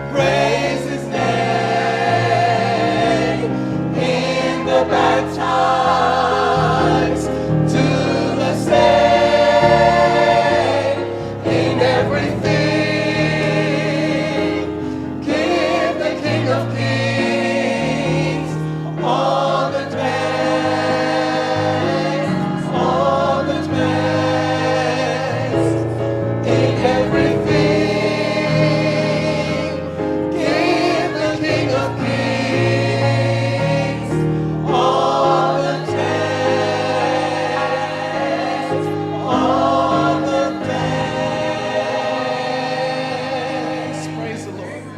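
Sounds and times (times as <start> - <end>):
church choir singing: 0.0 - 44.9.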